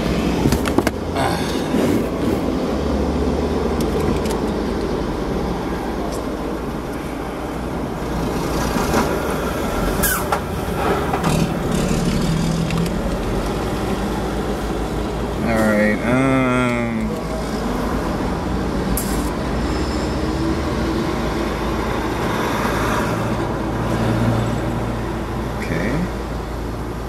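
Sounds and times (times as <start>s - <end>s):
traffic noise: 0.0s - 27.0s.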